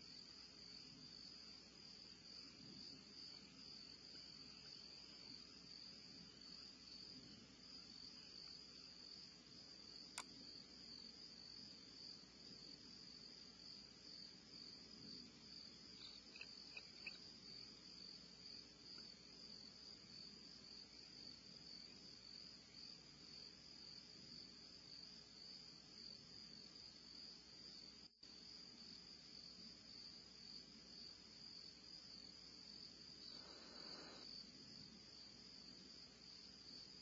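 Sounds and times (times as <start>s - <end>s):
crickets chirring: 0.0s - 37.0s.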